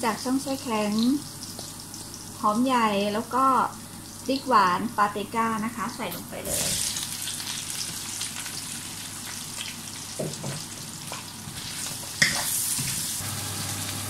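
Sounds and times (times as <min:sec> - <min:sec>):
vegetables sizzling in oil: 0:00.0 - 0:05.1, 0:05.9 - 0:14.0.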